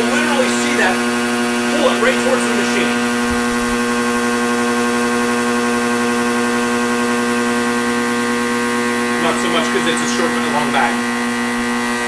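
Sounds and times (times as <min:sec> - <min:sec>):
vacuum sealer pump humming: 0:00.0 - 0:12.0.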